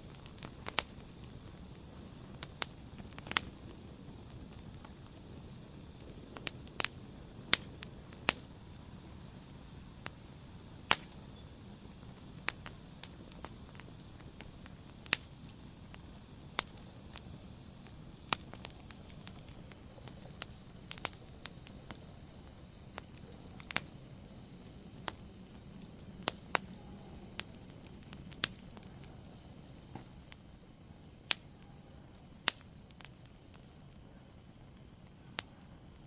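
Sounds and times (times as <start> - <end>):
fire crackling and popping: 0.0 - 36.0
low steady hiss: 0.0 - 36.0.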